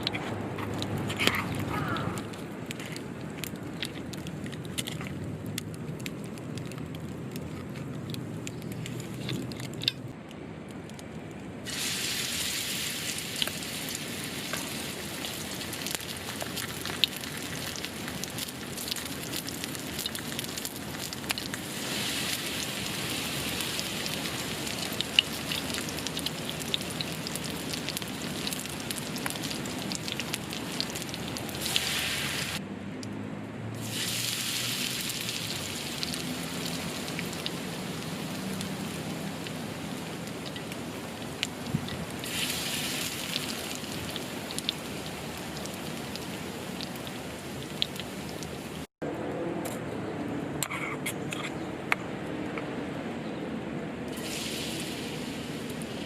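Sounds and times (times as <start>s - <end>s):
campfire sizzling and crackling: 0.0s - 32.6s, 33.8s - 48.9s, 54.1s - 56.0s.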